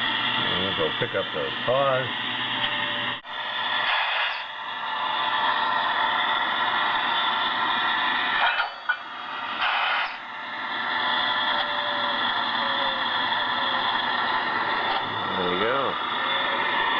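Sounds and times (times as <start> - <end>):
model electric train running: 0.0 - 2.4, 3.2 - 16.9.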